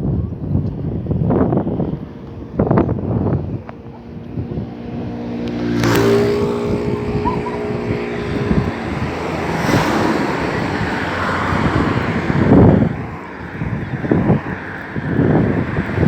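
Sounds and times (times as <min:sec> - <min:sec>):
engine humming: 0:00.0 - 0:16.0
wind gusting on microphone: 0:00.0 - 0:16.0.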